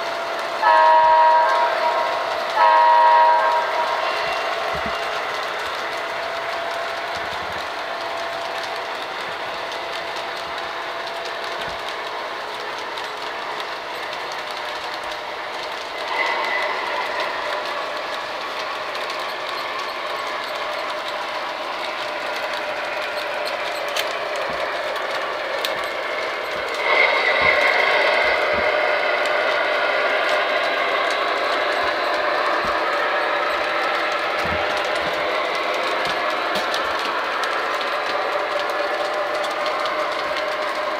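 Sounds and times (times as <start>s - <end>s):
model train wheels on metal track: 0.0s - 40.9s.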